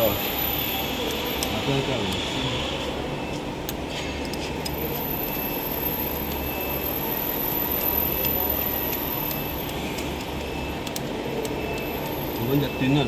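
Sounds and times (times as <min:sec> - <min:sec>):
factory machinery drone: 0:00.0 - 0:13.0.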